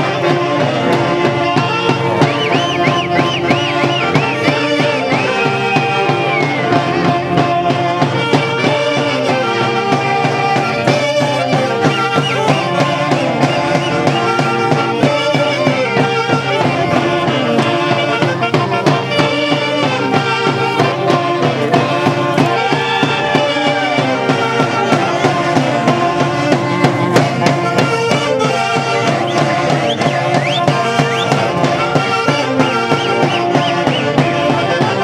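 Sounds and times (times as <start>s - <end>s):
wind band playing over beat: 0.0s - 35.0s.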